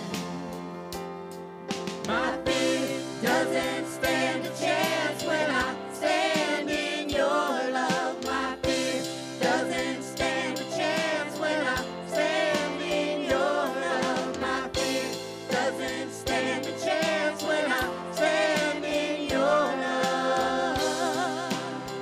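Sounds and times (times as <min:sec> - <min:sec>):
voices singing in harmony: 0:02.0 - 0:22.0.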